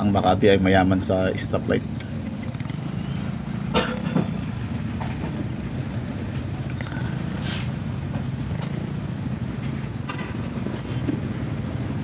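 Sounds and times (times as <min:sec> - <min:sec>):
faint passing traffic: 0:00.0 - 0:12.0
motorcycle engine running: 0:02.0 - 0:12.0.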